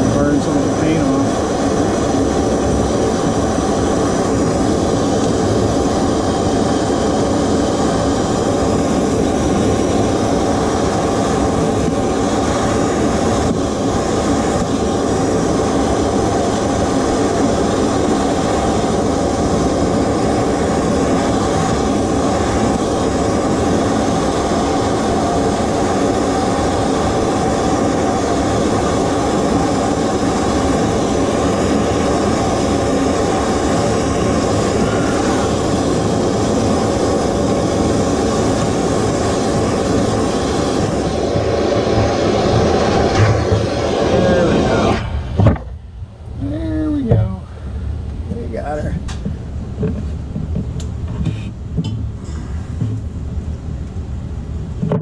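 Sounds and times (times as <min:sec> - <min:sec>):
gas torch hissing: 0:00.0 - 0:54.8.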